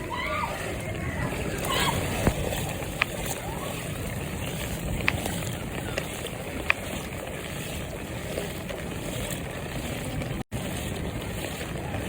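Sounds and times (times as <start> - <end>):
vehicles on waterlogged road: 0.0 - 12.0.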